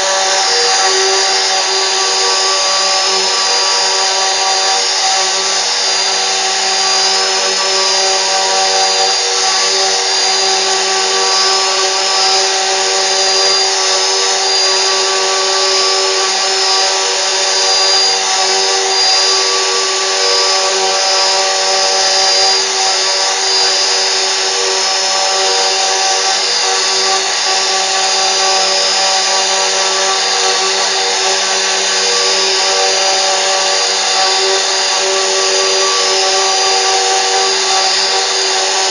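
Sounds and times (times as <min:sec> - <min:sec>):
machining noise: 0:00.0 - 0:38.9
router spindle whine: 0:00.0 - 0:38.9.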